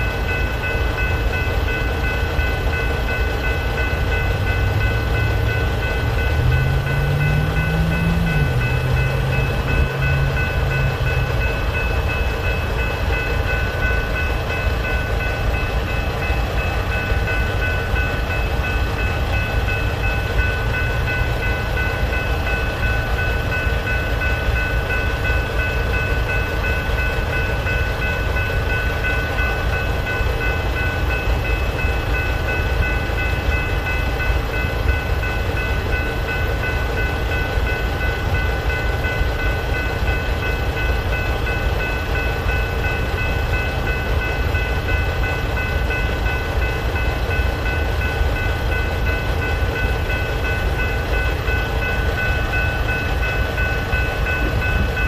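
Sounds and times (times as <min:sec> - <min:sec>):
crossing bells ringing: 0:00.0 - 0:55.0
freight train rumbling: 0:00.0 - 0:55.0.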